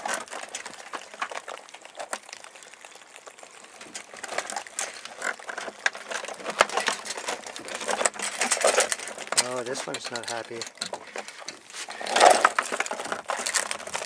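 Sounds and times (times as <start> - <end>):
crabs clicking against wire mesh: 0.0 - 14.0.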